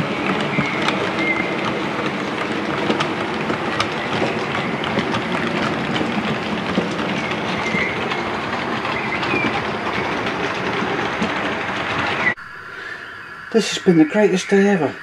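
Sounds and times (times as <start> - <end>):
train rolling rumble: 0.0 - 12.4
wheel clicks: 0.0 - 12.4.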